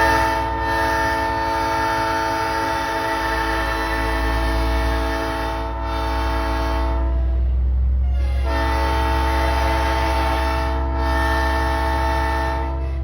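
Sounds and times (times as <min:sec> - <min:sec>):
train horn chord: 0:00.0 - 0:13.0
truck engine drone: 0:00.0 - 0:13.0.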